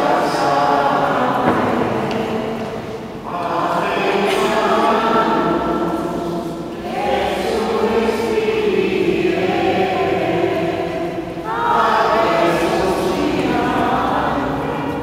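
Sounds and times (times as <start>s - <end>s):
group singing a slow hymn: 0.0s - 15.0s.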